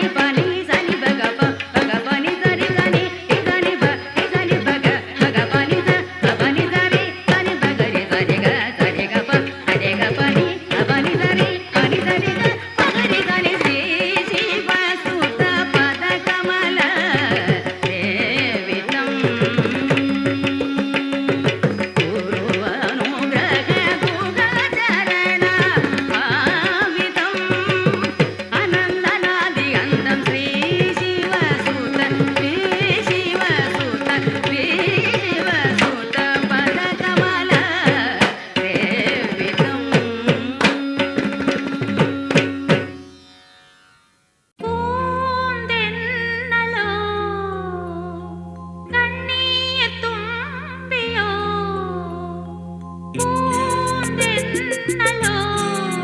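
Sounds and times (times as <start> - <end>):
tabla rhythm: 0.0 - 43.3, 53.0 - 56.0.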